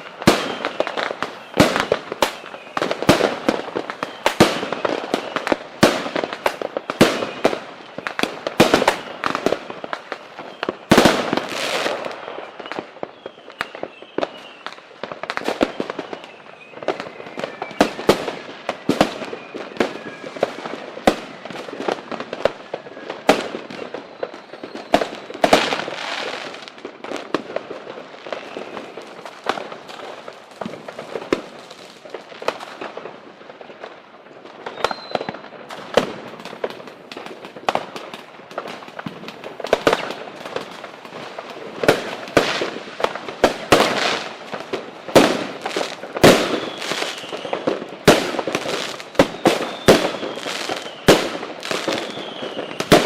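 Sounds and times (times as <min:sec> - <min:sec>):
faint firework whistles: 0:00.0 - 0:53.0
fireworks bangs and crackles: 0:00.0 - 0:53.0.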